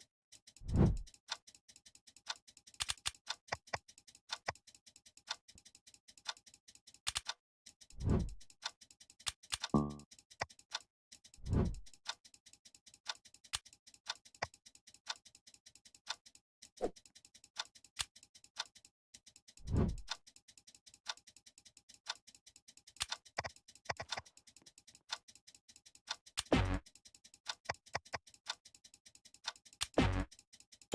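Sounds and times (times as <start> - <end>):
clock ticking: 0.0 - 30.9.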